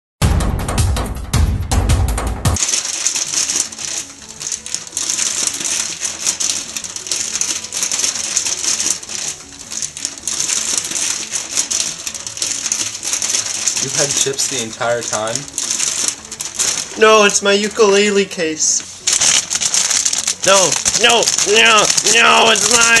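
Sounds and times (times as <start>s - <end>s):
dense crackling ticks: 2.6s - 23.0s.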